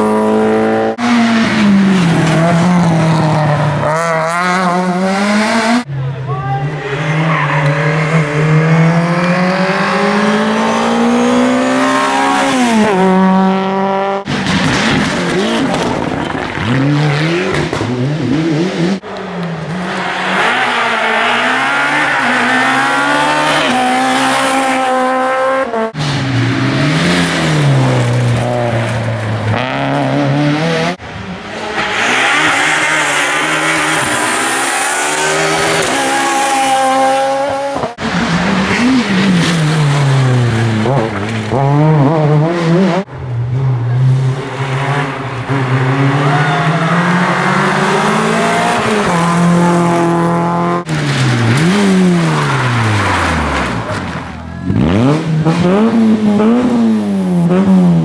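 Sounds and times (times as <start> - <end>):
rally car engines revving high: 0.0 - 58.0.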